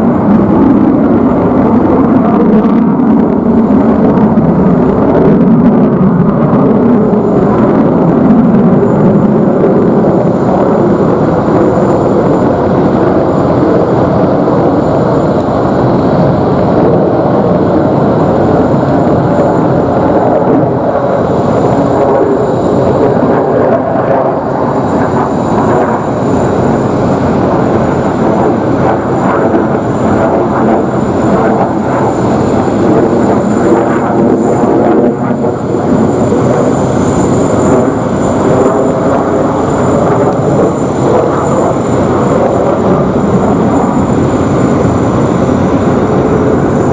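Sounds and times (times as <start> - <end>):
fighter jet engines roaring: 0.0 - 46.9.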